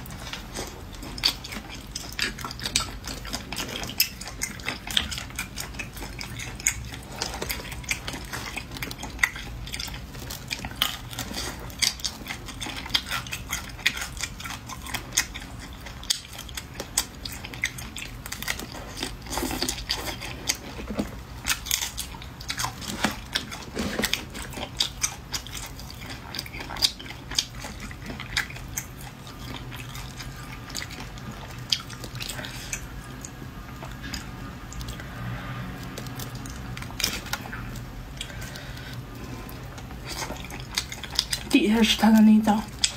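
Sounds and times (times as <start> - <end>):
chewing and biting: 0.0 - 42.9.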